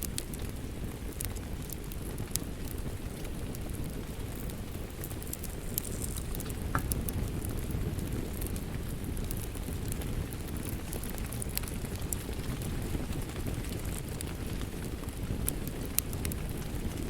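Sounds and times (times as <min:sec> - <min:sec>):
fire pops: 0:00.0 - 0:17.0
low rumble of flames: 0:00.0 - 0:17.0
wood fire crackling: 0:00.0 - 0:17.0.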